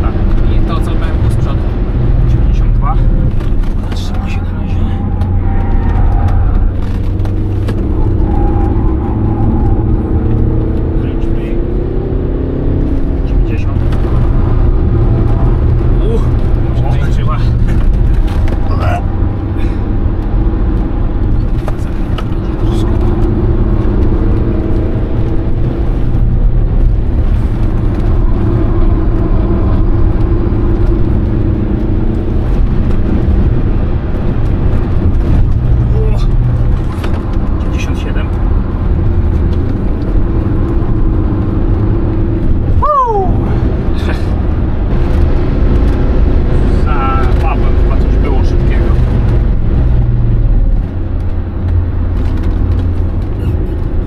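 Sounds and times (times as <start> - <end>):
diesel engine running hard: 0.0 - 54.0
low cabin rumble: 0.0 - 54.0
tyre and road noise: 0.0 - 54.0.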